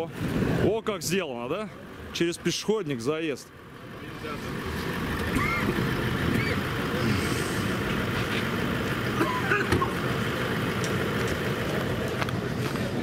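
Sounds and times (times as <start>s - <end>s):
low motor vehicle rumble: 0.0s - 13.0s.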